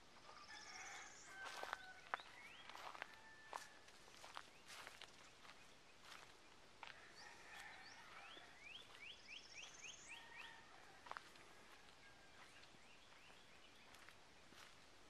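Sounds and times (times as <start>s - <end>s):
steps on dry ground: 0.1s - 15.0s.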